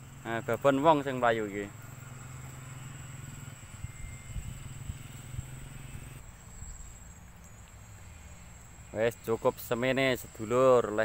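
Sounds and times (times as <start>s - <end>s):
distant engine drone: 0.0s - 11.0s
high insect buzz: 0.0s - 11.0s.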